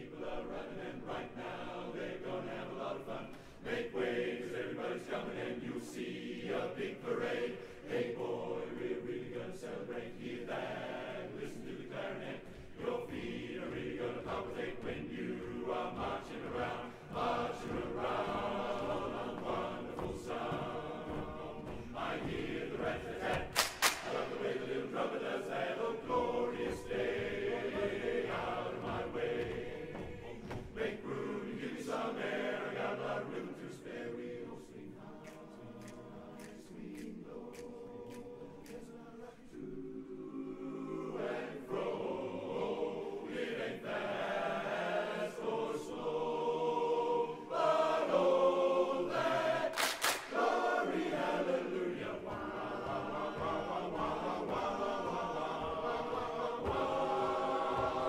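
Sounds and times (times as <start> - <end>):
men's chorus singing a cappella: 0.0 - 58.0.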